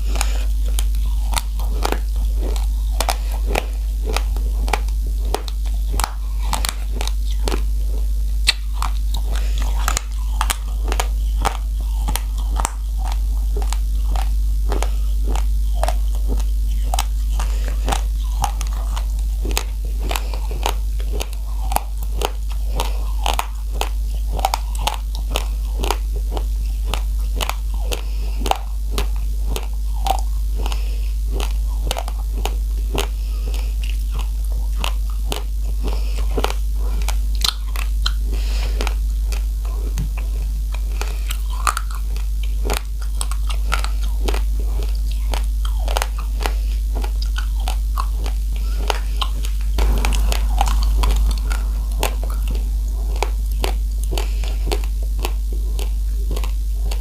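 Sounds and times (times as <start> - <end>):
chewing crunchy rice grains: 0.0 - 57.0
steady low hum: 0.0 - 57.0.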